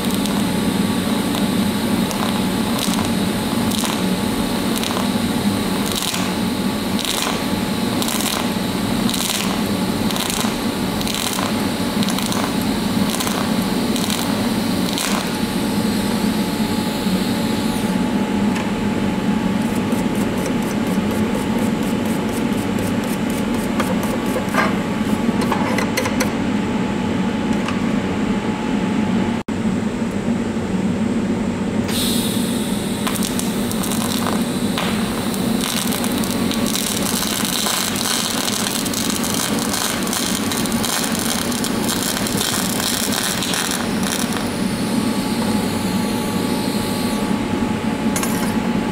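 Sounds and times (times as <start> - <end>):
welding arc hissing and humming: 0.0 - 27.9, 31.8 - 48.9.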